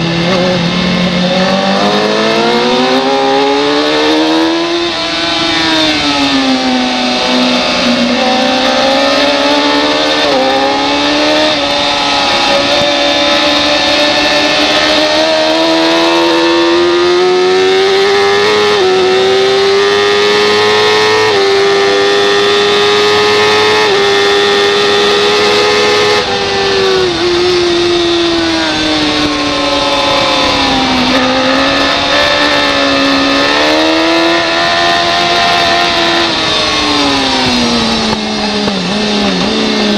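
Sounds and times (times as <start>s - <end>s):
superbike engine revving: 0.0s - 39.9s.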